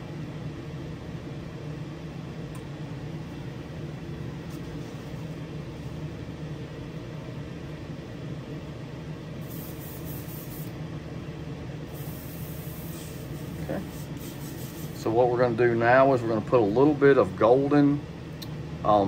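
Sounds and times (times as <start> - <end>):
exhaust fan drone: 0.0 - 19.0.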